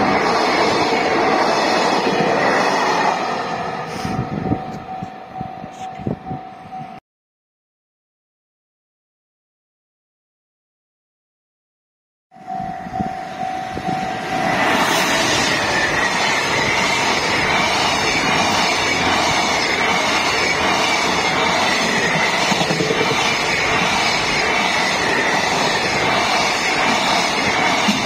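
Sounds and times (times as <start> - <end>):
level-crossing warning bell: 0.0 - 7.0, 12.3 - 28.0
train wagons rumbling and clattering: 0.0 - 7.0, 12.4 - 28.0.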